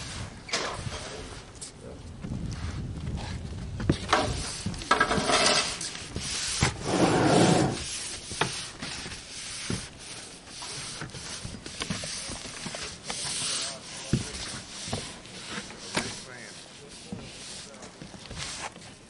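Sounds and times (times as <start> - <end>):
push broom scraping a roof: 0.0 - 1.6, 3.8 - 19.0.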